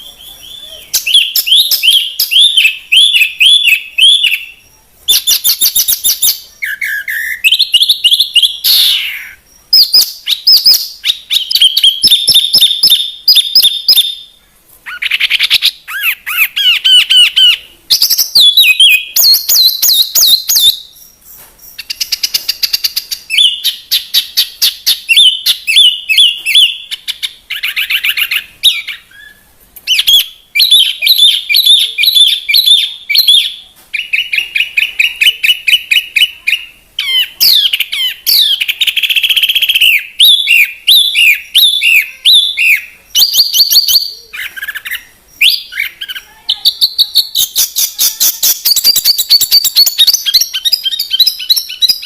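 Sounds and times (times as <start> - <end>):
songbird chirps and trills: 0.0 - 52.0.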